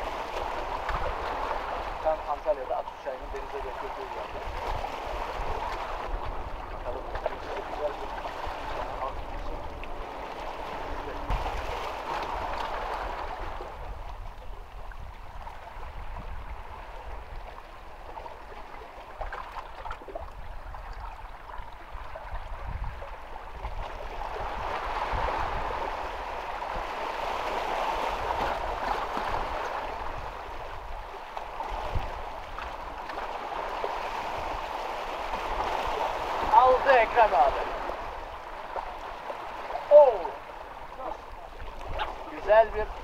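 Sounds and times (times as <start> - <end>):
water lapping on rocks: 0.0 - 43.0.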